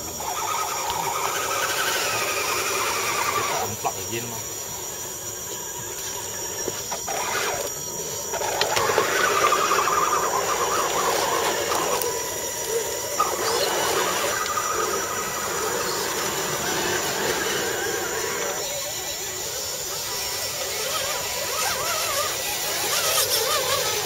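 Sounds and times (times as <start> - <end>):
toy truck motors whining: 0.0 - 24.0.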